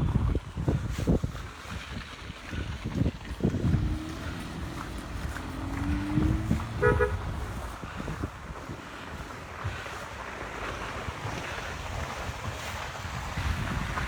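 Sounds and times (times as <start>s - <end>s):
wind buffeting microphone: 0.0s - 14.0s
street traffic rumbling: 2.2s - 14.0s.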